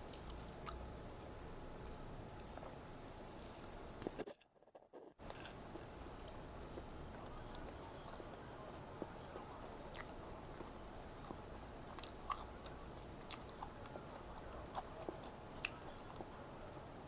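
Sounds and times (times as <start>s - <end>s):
person chewing food: 0.0s - 0.9s, 2.4s - 8.3s, 9.0s - 16.8s.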